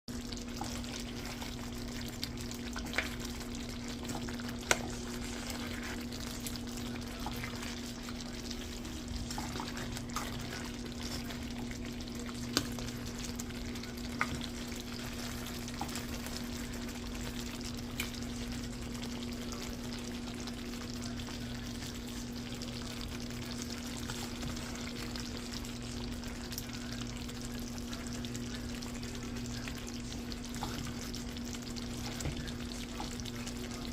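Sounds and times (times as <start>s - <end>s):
food sizzling in a pan: 0.1s - 33.9s.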